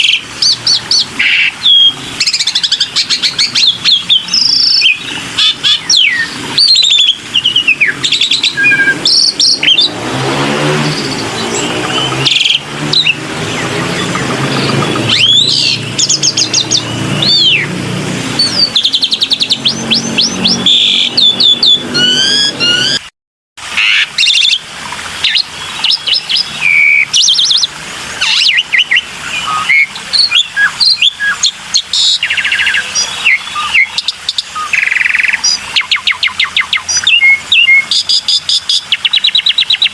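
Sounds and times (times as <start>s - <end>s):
starling singing: 0.0s - 23.1s, 23.8s - 39.9s.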